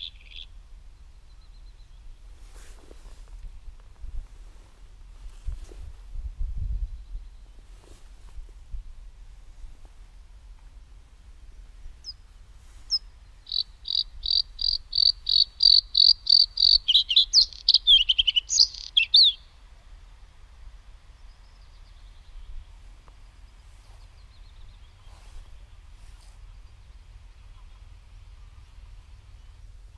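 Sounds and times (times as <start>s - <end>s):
songbird singing: 0.0s - 4.0s, 6.6s - 8.0s, 10.1s - 29.9s.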